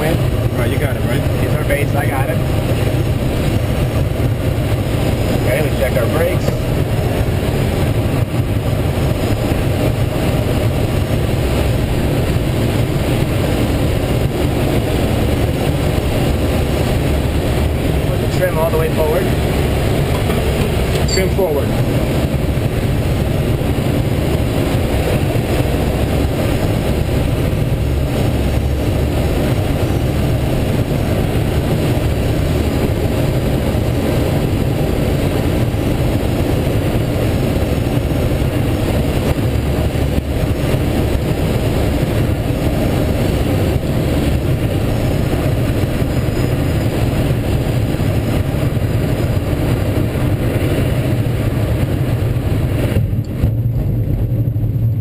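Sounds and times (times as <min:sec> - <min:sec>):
wind rushing past cockpit: 0:00.0 - 0:55.0.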